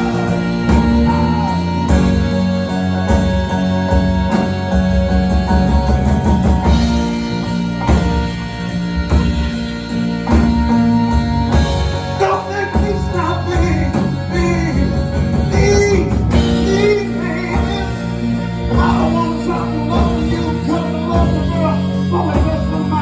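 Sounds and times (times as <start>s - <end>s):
live band playing soul ballad: 0.0s - 23.0s.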